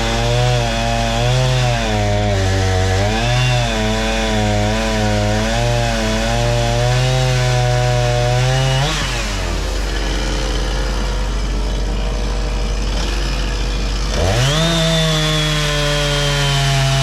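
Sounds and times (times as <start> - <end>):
excavator diesel engine labouring: 0.0 - 17.0.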